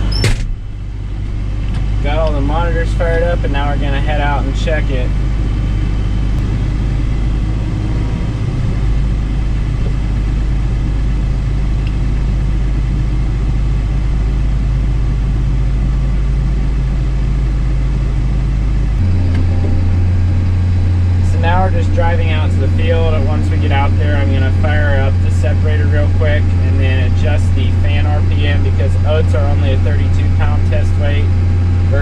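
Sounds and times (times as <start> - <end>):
combine harvester engine droning: 0.0 - 32.0.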